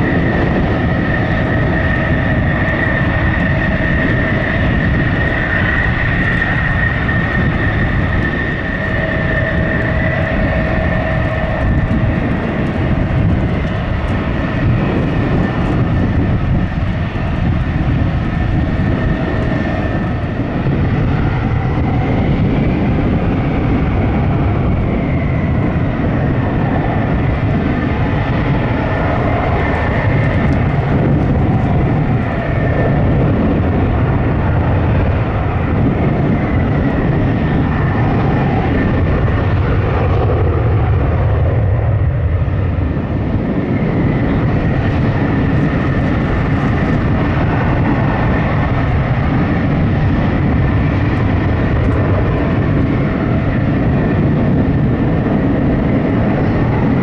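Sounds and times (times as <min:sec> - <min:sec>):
jet engines whining: 0:00.0 - 0:57.0
low rumble: 0:00.0 - 0:57.0.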